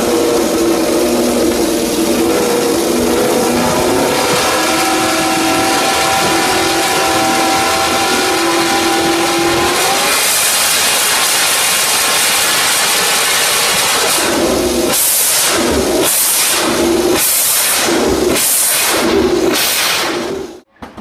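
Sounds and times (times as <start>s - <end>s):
loud rushing noise: 0.0s - 20.6s
racing motorcycle engine: 0.0s - 21.0s.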